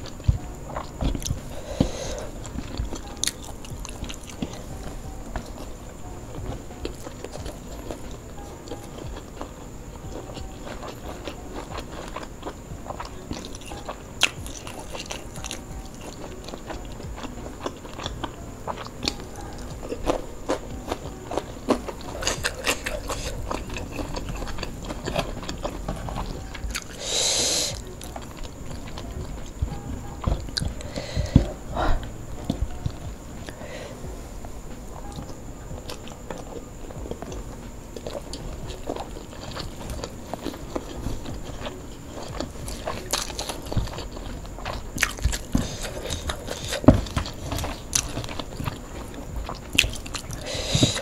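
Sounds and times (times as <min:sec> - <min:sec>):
person chewing food: 0:00.0 - 0:51.0.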